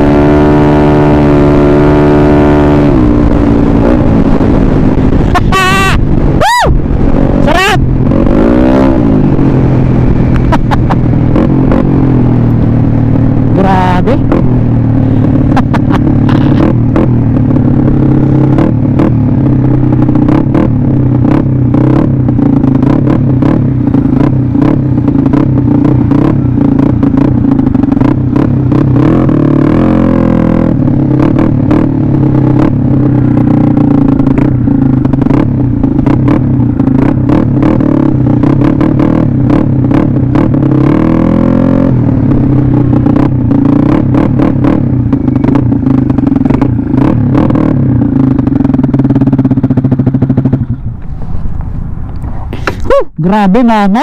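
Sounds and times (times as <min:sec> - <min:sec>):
scooter engine running: 0:00.0 - 0:53.0.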